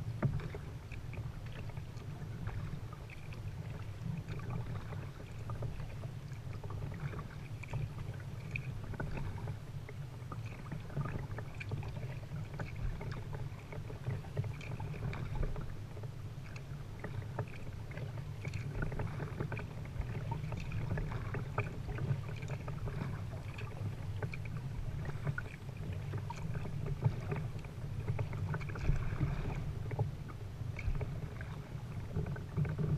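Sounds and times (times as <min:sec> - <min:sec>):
paddle splashes and drips: 0:00.0 - 0:32.9
water lapping at hull: 0:00.0 - 0:32.9.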